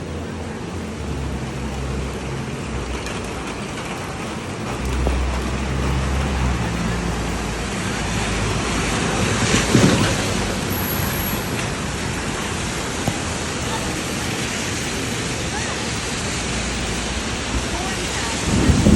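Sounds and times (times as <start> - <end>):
heavy rain on street: 0.0 - 18.9
passing traffic hum: 0.0 - 18.9
rush of water: 0.0 - 18.9.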